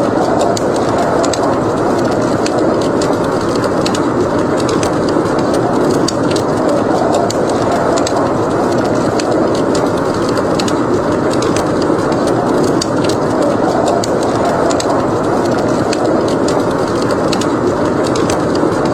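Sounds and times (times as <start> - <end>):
blizzard wind rushing: 0.0 - 18.9
wood fire crackling: 0.0 - 18.9.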